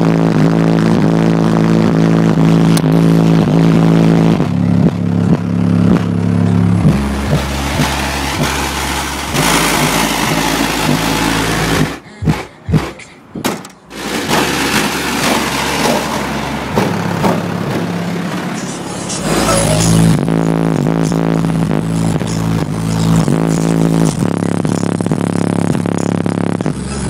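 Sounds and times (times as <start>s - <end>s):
bass-heavy electronic music: 0.0s - 27.0s.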